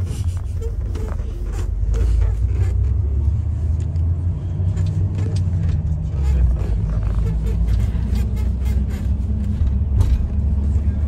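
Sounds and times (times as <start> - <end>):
van engine rumble from inside: 0.0 - 11.0.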